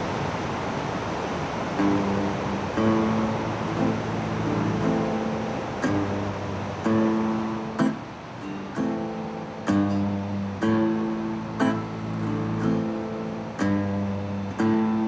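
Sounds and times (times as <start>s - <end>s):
resonator guitar chords ringing: 1.8s - 15.0s.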